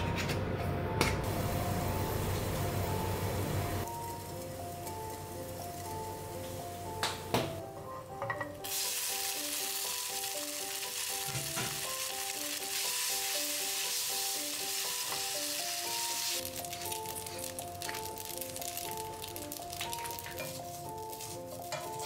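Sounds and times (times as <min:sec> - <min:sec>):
gentle background music: 0:00.0 - 0:22.0
oil sizzling in a frying pan: 0:01.2 - 0:07.0, 0:08.6 - 0:22.0.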